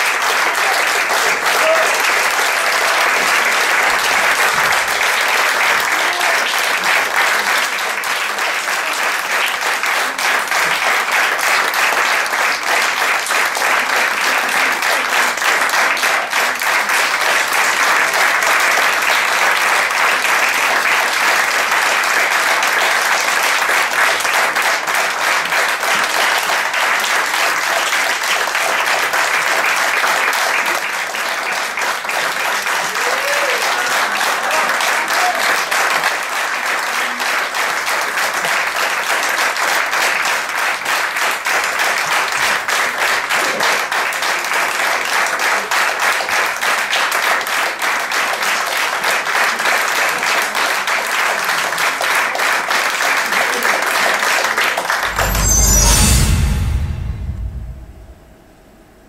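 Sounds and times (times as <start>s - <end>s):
audience applauding: 0.0s - 55.8s.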